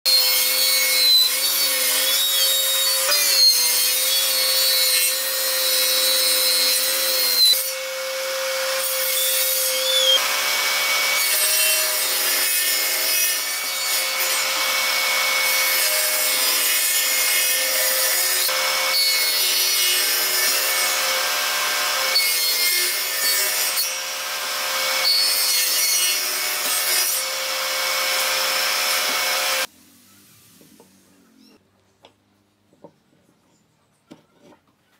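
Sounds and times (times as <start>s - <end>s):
table saw cutting wood: 0.1s - 29.7s.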